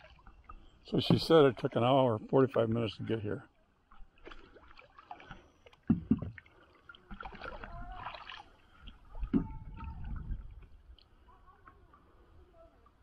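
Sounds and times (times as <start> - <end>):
water lapping against kayak hull: 0.0 - 1.8, 3.5 - 13.0.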